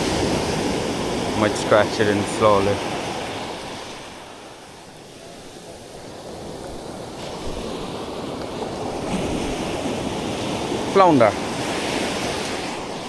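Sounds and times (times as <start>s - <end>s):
sea surf washing on beach: 0.0s - 13.0s
wind buffeting microphone: 0.0s - 13.0s.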